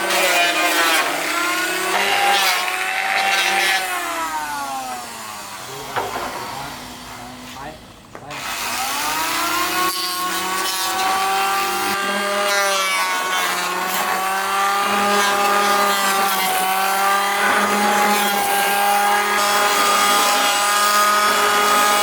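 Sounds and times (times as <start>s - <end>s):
power tool motor whining: 0.0s - 22.0s.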